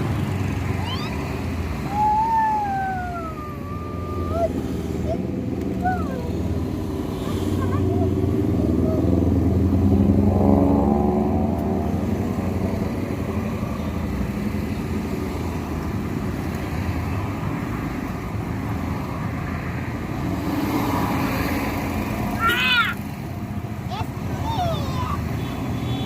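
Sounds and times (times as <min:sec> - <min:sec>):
vehicle engines in slow traffic: 0:00.0 - 0:26.0.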